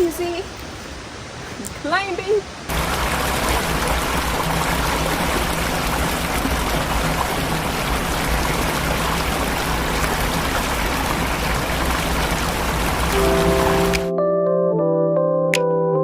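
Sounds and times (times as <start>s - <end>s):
waterfall rushing: 0.0s - 14.1s.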